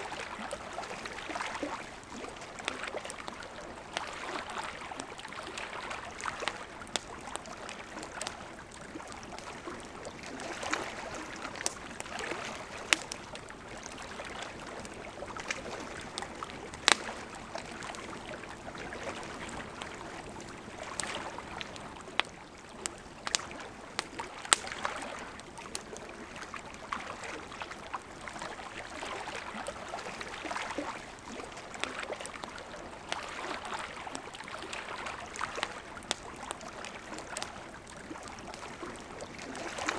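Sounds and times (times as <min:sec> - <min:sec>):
burning wood crackling: 0:00.1 - 0:26.6, 0:34.1 - 0:39.9.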